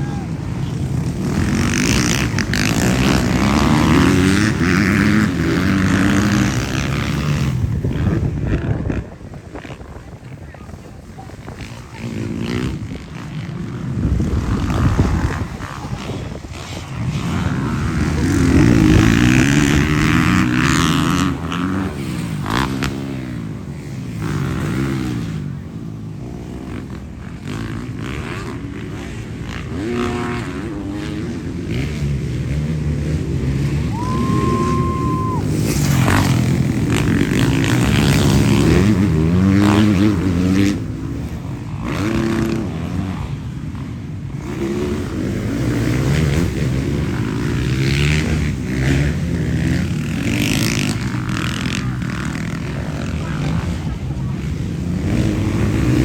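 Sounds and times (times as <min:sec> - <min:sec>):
motocross bikes revving: 0:00.0 - 0:56.0.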